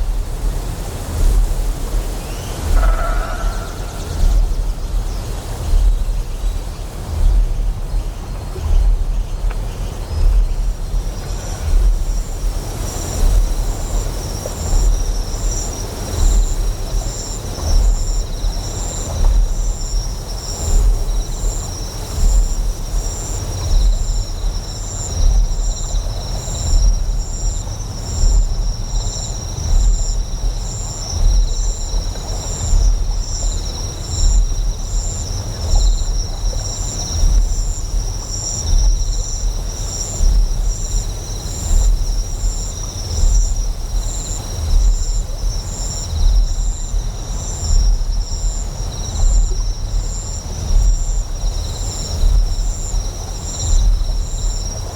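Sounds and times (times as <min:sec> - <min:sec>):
flowing water: 0:00.0 - 0:54.9
insects trilling: 0:00.0 - 0:54.9
pulsing generator hum: 0:00.0 - 0:54.9.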